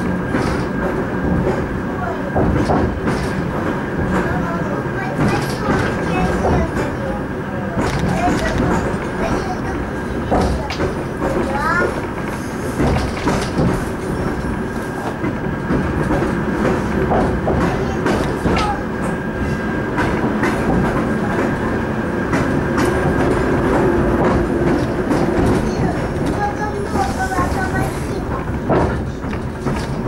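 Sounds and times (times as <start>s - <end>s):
train rumble: 0.0s - 30.0s
wheels clicking over rail joints: 0.0s - 30.0s.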